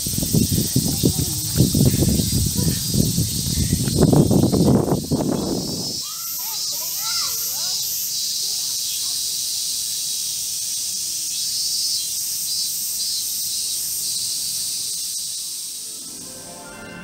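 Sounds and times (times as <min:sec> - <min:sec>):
cicadas shrill hiss: 0:00.0 - 0:17.0
pulsing cicada song: 0:00.0 - 0:17.0.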